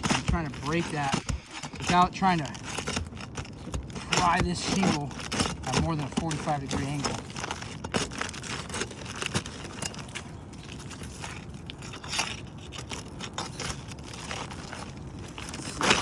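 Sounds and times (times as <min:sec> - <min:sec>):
shingle cracking and scraping: 0:00.0 - 0:16.0.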